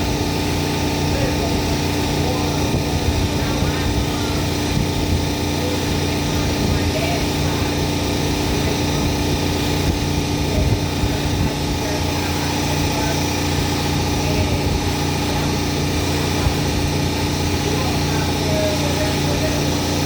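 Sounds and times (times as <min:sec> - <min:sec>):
small engine droning: 0:00.0 - 0:20.0.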